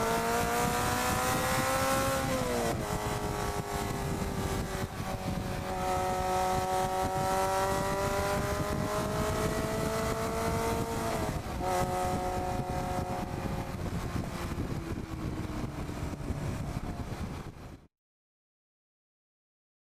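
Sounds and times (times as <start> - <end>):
sports car engine accelerating: 0.0 - 17.6
wind noise on microphone: 0.0 - 17.9.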